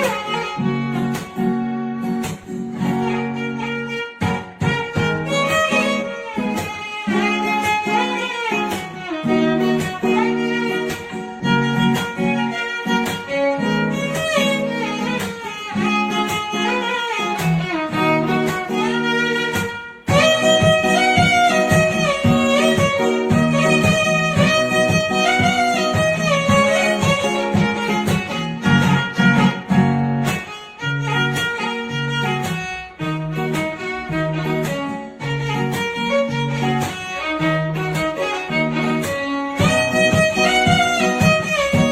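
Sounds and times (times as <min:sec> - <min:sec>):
plucked guitar: 0:00.0 - 0:41.9
violin-like string melody: 0:00.0 - 0:41.9.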